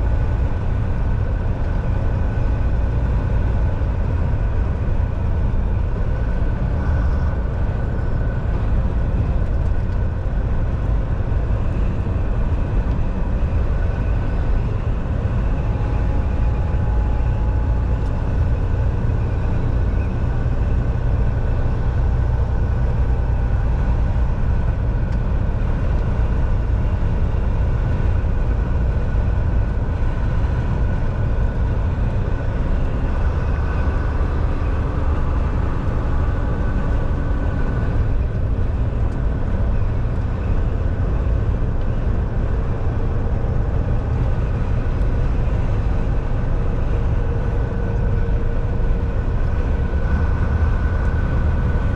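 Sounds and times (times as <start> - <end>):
truck diesel engine rumble: 0.0 - 51.9
tyre and road noise: 0.0 - 51.9.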